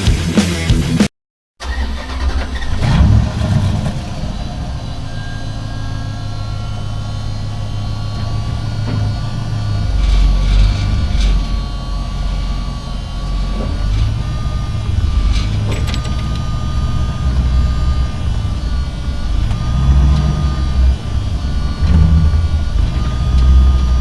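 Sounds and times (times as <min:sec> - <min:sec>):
diesel truck engine rumbling: 0:01.6 - 0:24.0
high whine: 0:02.9 - 0:24.0.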